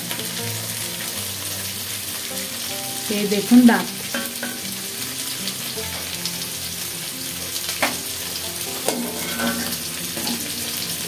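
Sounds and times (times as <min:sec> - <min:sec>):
fish head sizzling in oil: 0:00.0 - 0:11.0.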